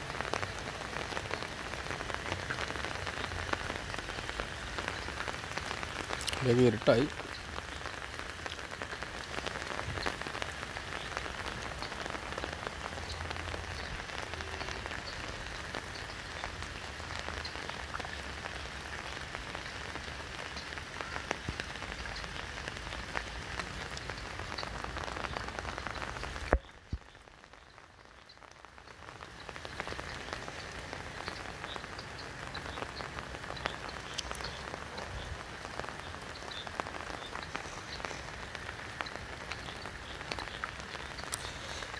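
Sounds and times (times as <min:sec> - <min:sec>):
rain falling on river: 0:00.0 - 0:41.9.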